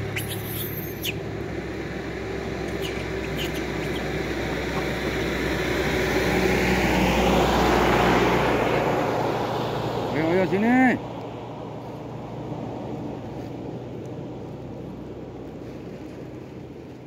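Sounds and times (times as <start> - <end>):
motor vehicle passing: 0.0 - 16.8.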